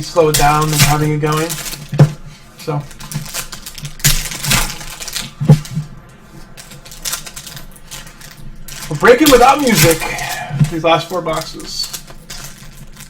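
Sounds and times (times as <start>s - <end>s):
cards clicking and knocking: 0.0s - 13.0s
packaging rustling: 0.0s - 13.0s.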